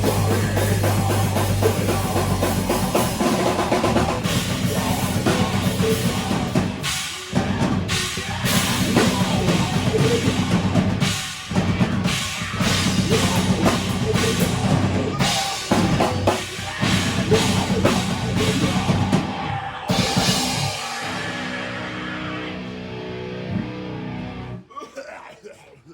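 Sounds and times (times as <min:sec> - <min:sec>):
drum kit pounding: 0:00.0 - 0:22.8
rock band playing heavy song: 0:00.0 - 0:24.6.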